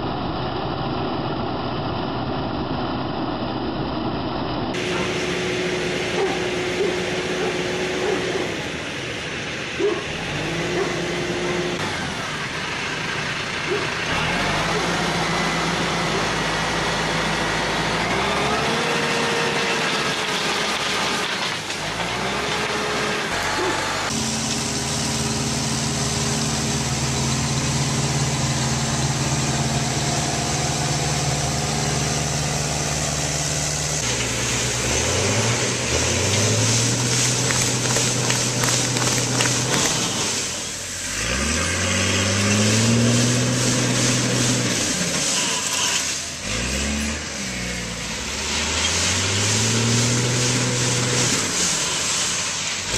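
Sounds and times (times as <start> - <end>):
tractor engines revving: 0.0 - 52.9.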